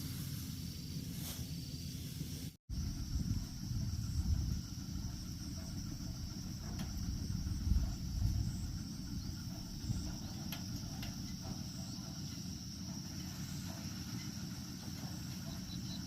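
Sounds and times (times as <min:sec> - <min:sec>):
insects trilling: 0:00.0 - 0:16.0
low rumble: 0:01.1 - 0:16.0.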